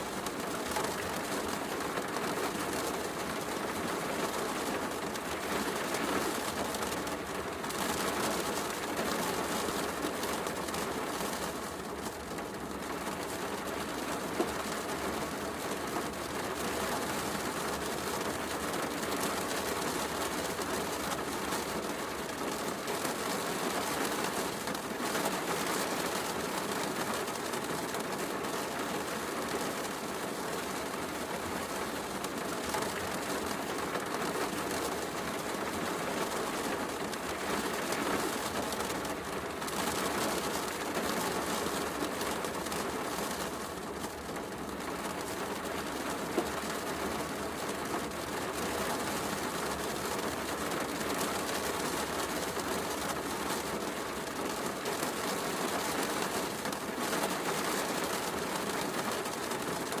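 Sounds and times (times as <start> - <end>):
heavy rain: 0.0 - 60.0.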